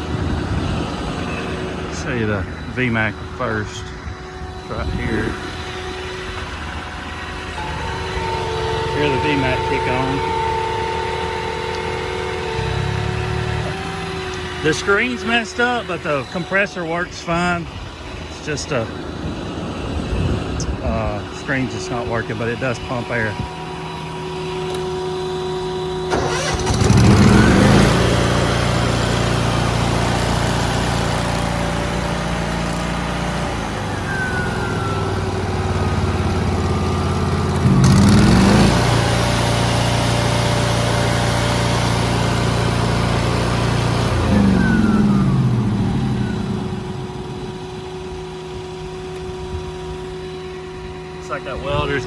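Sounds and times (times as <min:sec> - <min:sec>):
engine revving: 0:00.0 - 0:52.0.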